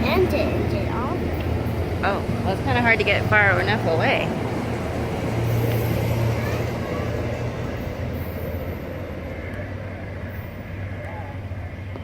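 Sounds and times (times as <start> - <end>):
train hum: 0.0 - 12.0
train wheels rumbling: 0.0 - 12.0.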